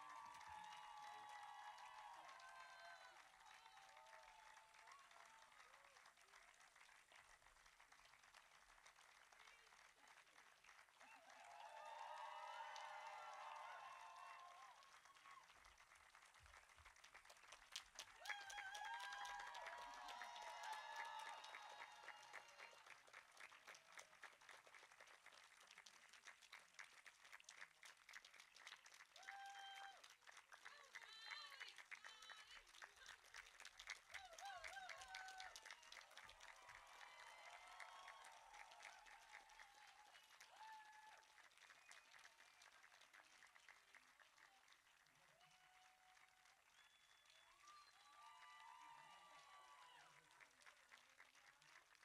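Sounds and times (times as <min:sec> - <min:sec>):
audience applause: 0:00.0 - 0:52.0.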